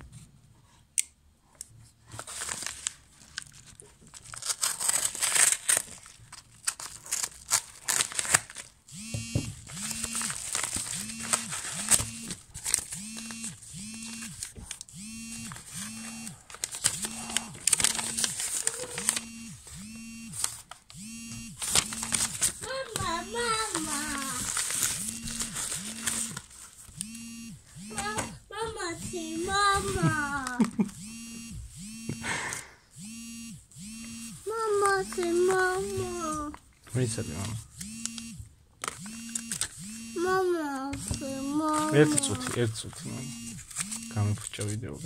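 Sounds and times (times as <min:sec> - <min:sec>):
paper mailer crinkling and tearing: 0:02.1 - 0:08.9, 0:09.5 - 0:27.2, 0:27.9 - 0:30.9, 0:34.5 - 0:45.0.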